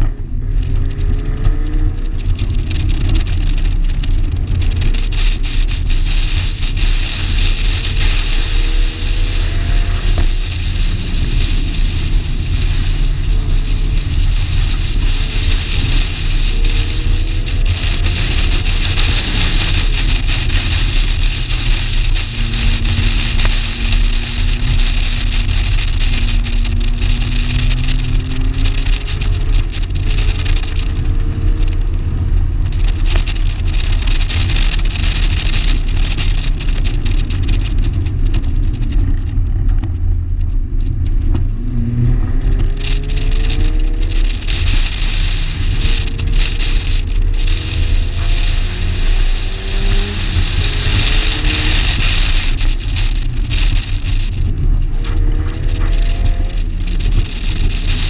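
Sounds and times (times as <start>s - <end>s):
car engine running hard: 0.0s - 58.0s
wind and road noise: 0.0s - 58.0s.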